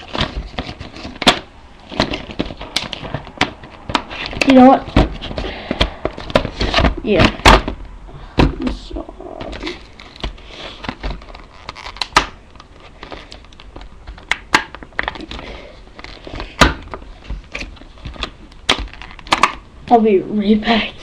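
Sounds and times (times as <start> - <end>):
plastic packaging crinkling: 0.0 - 6.8, 9.5 - 19.6.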